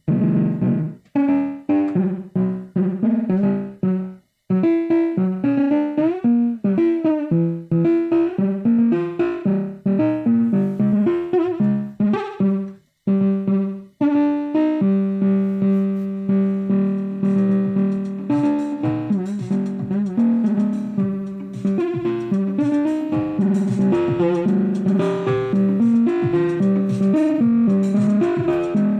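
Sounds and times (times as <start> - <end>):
keyboard-like instrumental music: 0.0 - 28.9.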